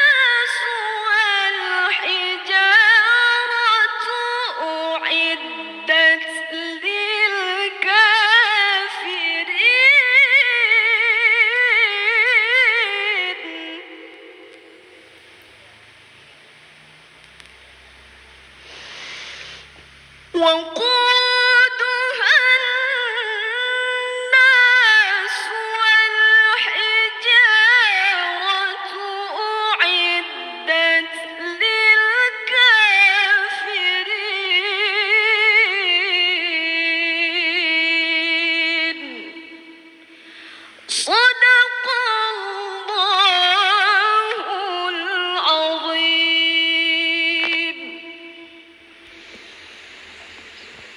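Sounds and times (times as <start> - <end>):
woman reciting melodically: 0.0 - 14.9, 20.3 - 48.8.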